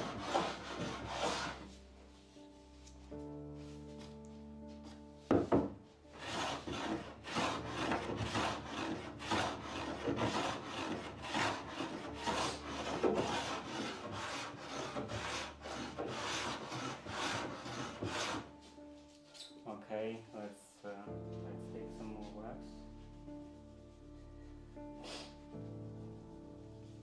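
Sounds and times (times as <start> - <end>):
wax rubbed into wooden door: 0.0 - 5.1, 6.0 - 19.0, 21.9 - 27.0.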